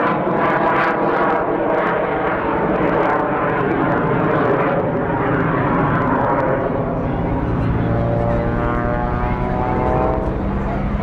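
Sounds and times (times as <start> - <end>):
airplane engine: 0.0 - 11.0.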